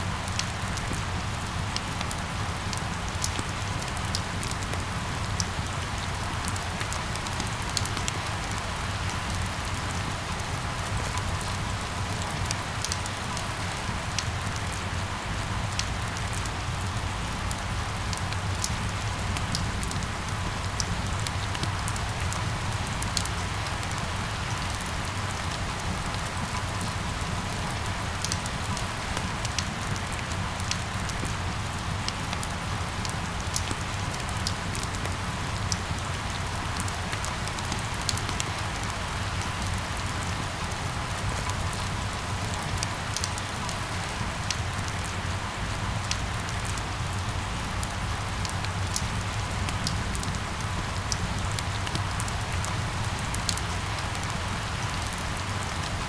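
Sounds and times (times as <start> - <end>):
rain pattering on hard surfaces: 0.0 - 56.0.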